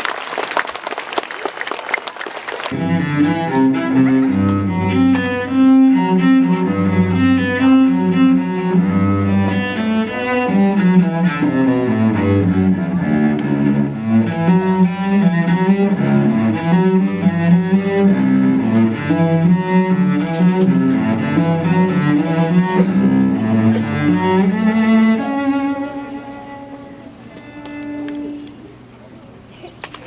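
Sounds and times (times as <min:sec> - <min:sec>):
bowed string instruments playing: 0:02.7 - 0:28.9.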